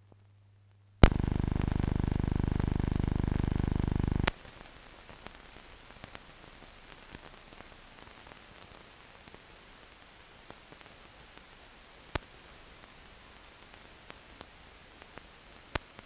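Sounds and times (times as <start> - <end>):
film hiss with clicks: 1.0 - 16.0.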